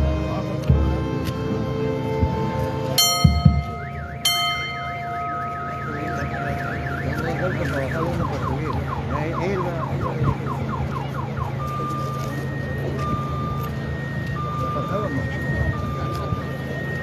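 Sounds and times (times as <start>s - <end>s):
electronic vehicle siren: 0.0s - 17.0s.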